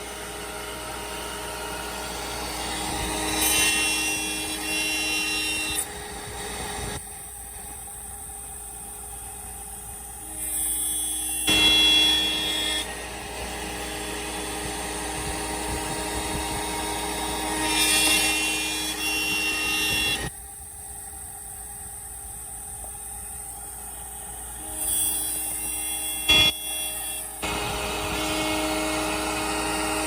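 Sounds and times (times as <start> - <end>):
router cutting wood: 0.0 - 20.3, 22.9 - 30.0
pitched whining tones: 0.0 - 30.0
router spindle whining: 0.0 - 30.0.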